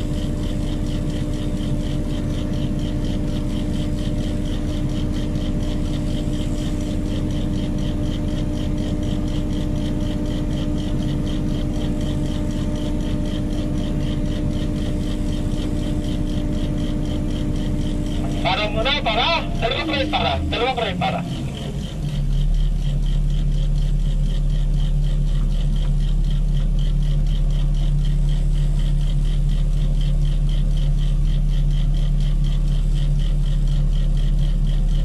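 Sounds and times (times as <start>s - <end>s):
crane diesel engine drone: 0.0s - 35.0s.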